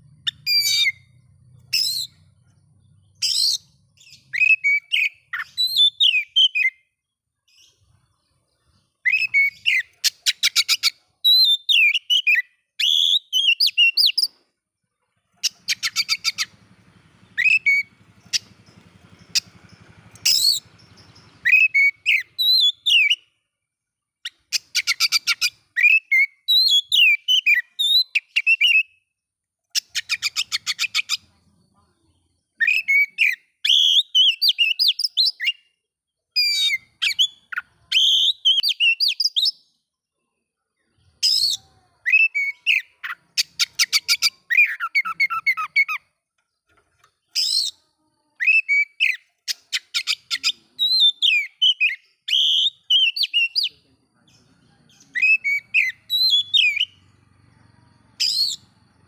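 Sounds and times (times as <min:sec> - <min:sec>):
magpie-robin singing: 0:00.0 - 0:06.9, 0:07.5 - 0:14.4, 0:15.3 - 0:23.4, 0:24.2 - 0:29.0, 0:29.8 - 0:31.4, 0:32.5 - 0:35.7, 0:36.3 - 0:39.7, 0:41.1 - 0:59.0.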